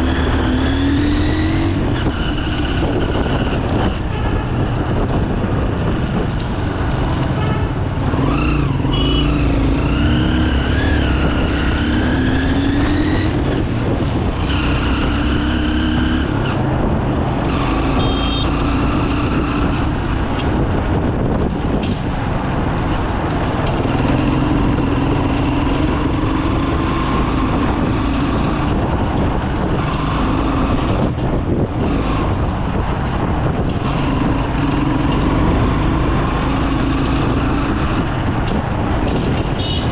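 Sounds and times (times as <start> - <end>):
road noise rushing: 0.0 - 39.9.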